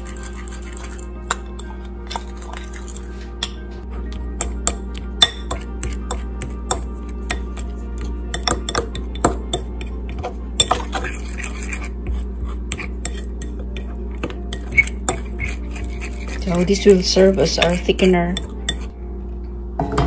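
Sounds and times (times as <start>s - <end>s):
fork whisking in a ceramic bowl: 0.0s - 18.9s.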